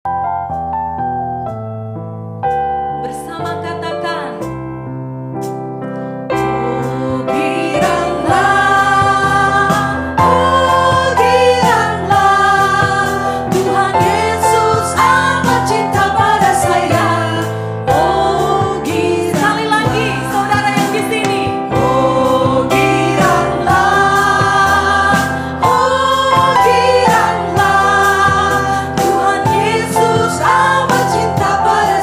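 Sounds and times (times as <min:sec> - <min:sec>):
band accompaniment: 0:02.5 - 0:32.0
group singing worship song: 0:06.4 - 0:32.0.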